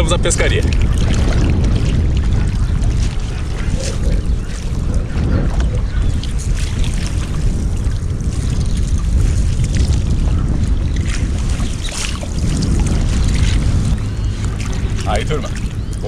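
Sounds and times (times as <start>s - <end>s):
water sloshing and splashing: 0.0s - 16.0s
wind rumbling on microphone: 0.0s - 16.0s.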